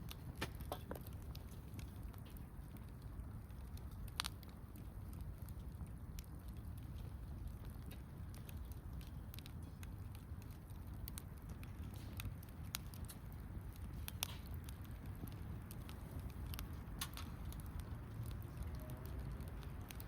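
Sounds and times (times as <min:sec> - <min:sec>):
campfire crackling and popping: 0:00.0 - 0:20.0
low steady rumble: 0:00.0 - 0:20.0.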